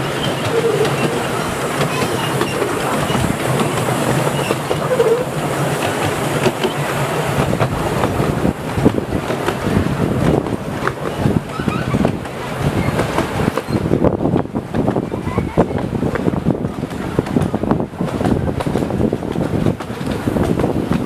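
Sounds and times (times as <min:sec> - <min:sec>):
carriages rumbling: 0:00.0 - 0:21.0
wheels clicking on rails: 0:00.0 - 0:21.0.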